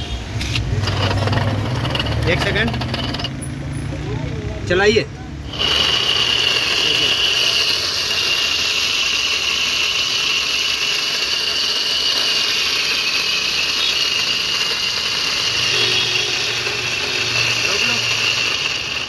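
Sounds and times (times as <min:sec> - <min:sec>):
electric motor whining: 0:00.6 - 0:03.4, 0:05.4 - 0:19.0.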